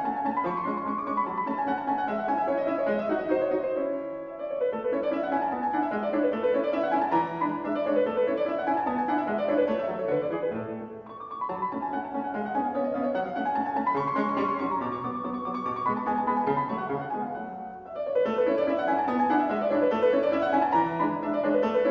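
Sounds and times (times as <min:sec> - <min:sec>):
classical solo piano: 0:00.0 - 0:21.9.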